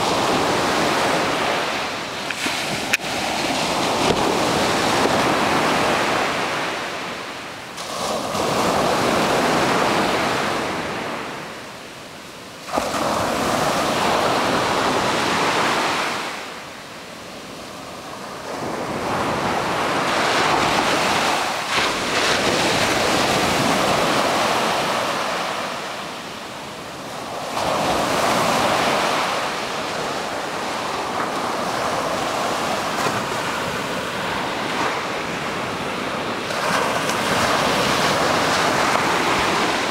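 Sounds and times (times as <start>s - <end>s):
ocean waves breaking: 0.0s - 11.8s, 12.4s - 39.9s.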